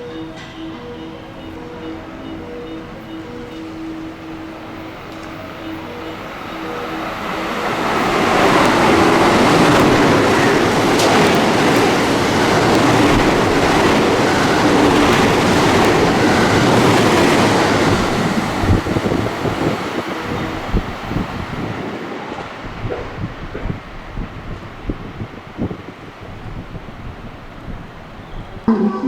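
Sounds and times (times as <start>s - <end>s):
train passing at speed: 0.0s - 29.0s.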